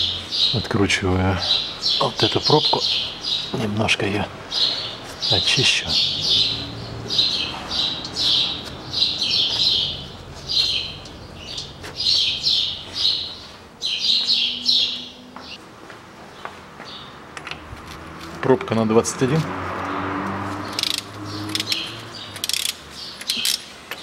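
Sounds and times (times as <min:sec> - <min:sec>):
small birds chirping: 0:00.0 - 0:15.6, 0:16.3 - 0:24.0.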